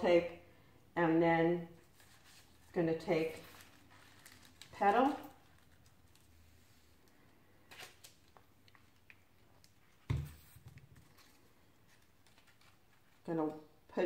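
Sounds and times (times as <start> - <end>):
paper rustling: 1.8 - 13.3.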